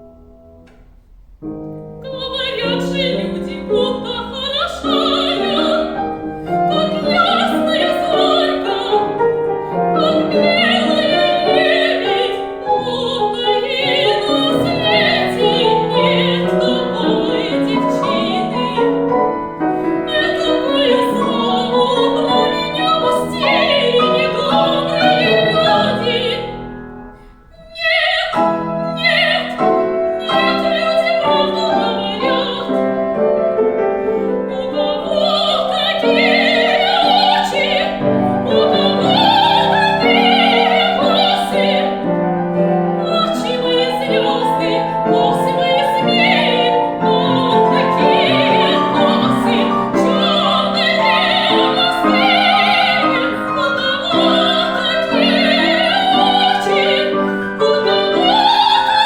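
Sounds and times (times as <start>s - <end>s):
piano accompaniment: 0.0s - 59.0s
soprano singing opera: 1.9s - 59.0s.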